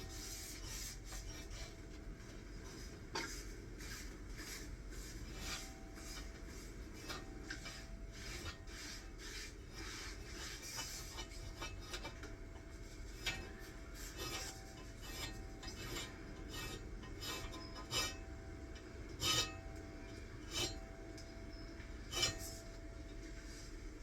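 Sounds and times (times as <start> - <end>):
hand scraping strokes: 0.0 - 18.3, 19.2 - 19.8, 20.4 - 23.8.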